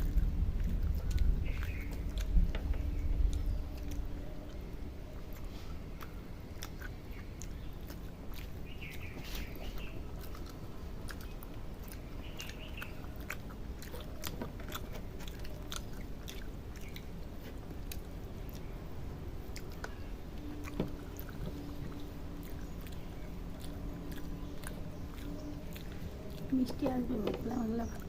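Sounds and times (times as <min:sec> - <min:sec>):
low hum: 0:00.0 - 0:28.0
people chewing food: 0:00.0 - 0:28.0.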